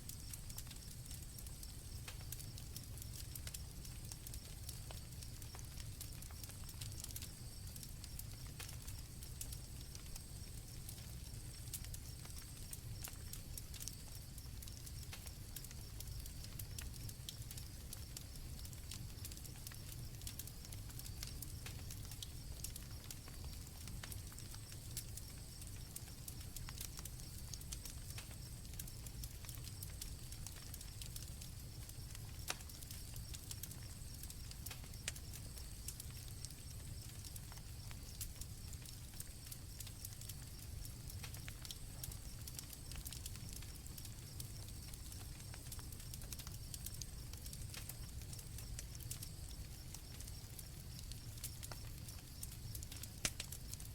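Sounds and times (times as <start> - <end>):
campfire crackling and popping: 0.0 - 53.9
crickets chirring: 7.0 - 53.9.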